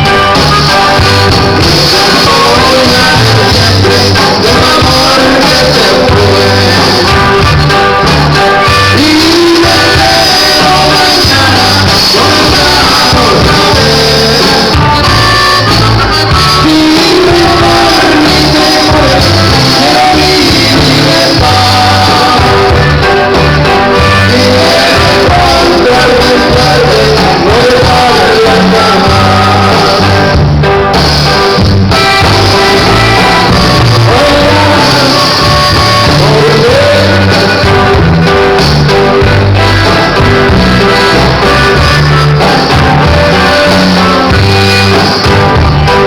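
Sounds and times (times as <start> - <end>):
person singing over a band: 0.0 - 46.0
pulsing bass line: 0.0 - 46.0.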